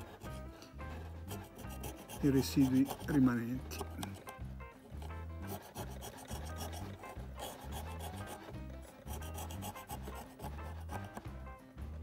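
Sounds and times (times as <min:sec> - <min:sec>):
hand tool scraping: 0:00.0 - 0:04.3, 0:05.0 - 0:11.2
background music with bass line: 0:00.0 - 0:12.0.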